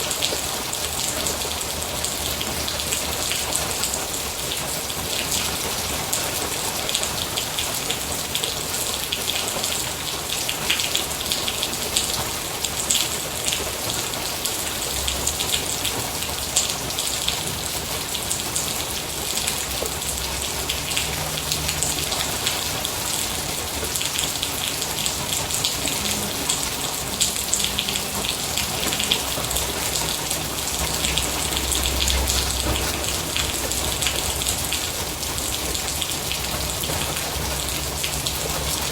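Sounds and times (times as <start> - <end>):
rain drops pattering: 0.0 - 38.9.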